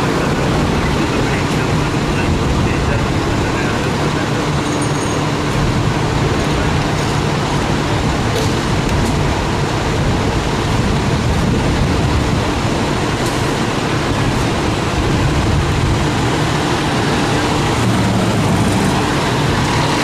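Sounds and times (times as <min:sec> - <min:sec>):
diesel engines running: 0:00.0 - 0:20.0
traffic noise: 0:00.0 - 0:20.0.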